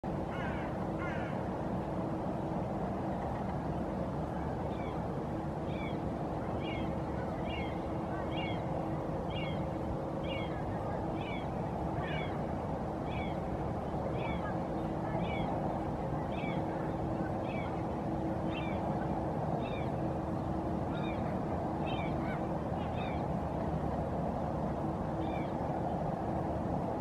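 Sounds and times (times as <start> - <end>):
faint hum: 0.0 - 27.0
low background rumble: 0.0 - 27.0.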